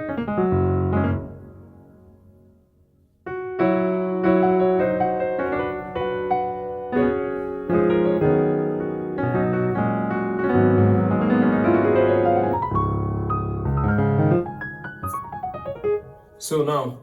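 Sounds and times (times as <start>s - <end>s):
piano chords on a keyboard: 0.0s - 2.6s, 3.2s - 16.8s.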